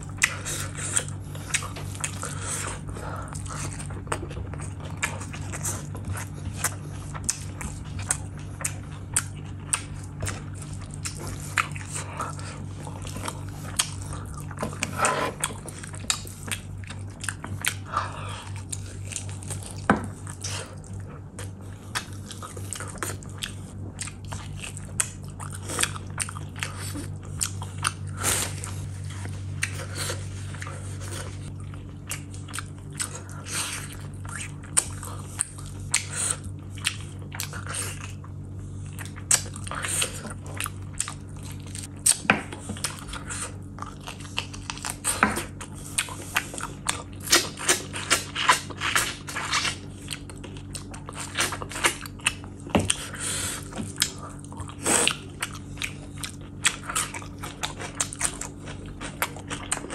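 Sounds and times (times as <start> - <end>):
chewing and lip-smacking: 0.0 - 59.9
steady low hum: 0.0 - 59.9.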